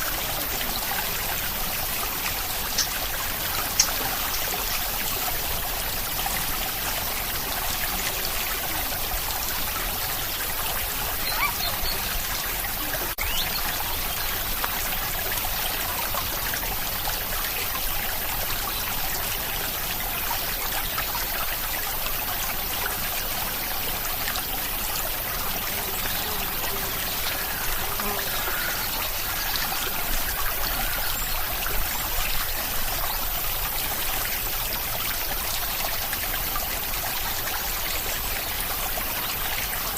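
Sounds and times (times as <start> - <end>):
running water: 0.0 - 39.9
steady rain: 0.0 - 39.9.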